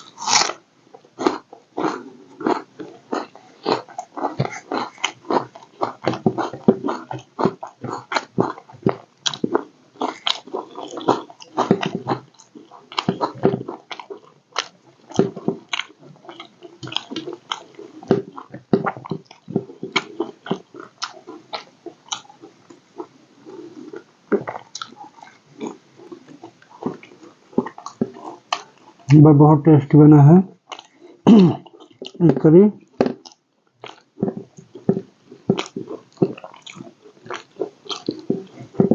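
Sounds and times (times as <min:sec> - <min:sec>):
mouth clicking sounds: 0:00.0 - 0:00.6, 0:01.2 - 0:29.3, 0:30.7 - 0:38.9
person chewing with wet smacking: 0:00.0 - 0:29.2, 0:30.6 - 0:38.9.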